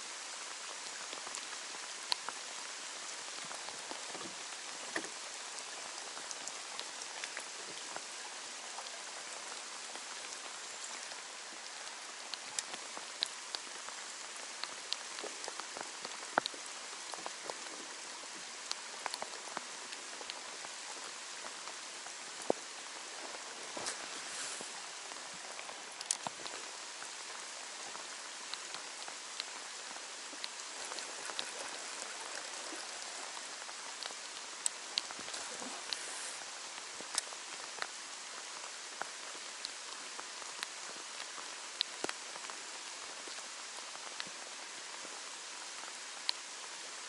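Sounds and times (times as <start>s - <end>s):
raindrops ticking nearby: 0.0s - 47.0s
steady rain falling: 0.0s - 47.0s.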